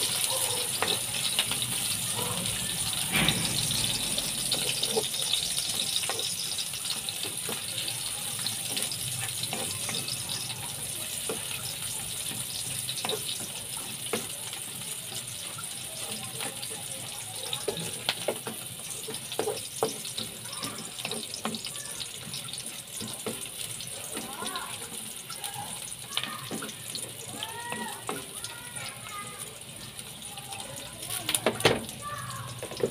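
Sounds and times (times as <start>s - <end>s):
food sizzling in a wok: 0.0s - 32.9s.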